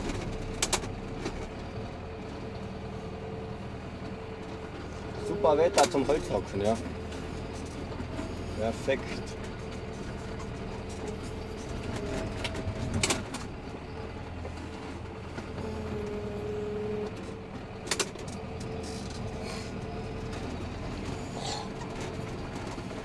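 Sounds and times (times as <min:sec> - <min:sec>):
snow plough pushing snow: 0:00.0 - 0:23.0
tractor engine running: 0:00.0 - 0:23.0.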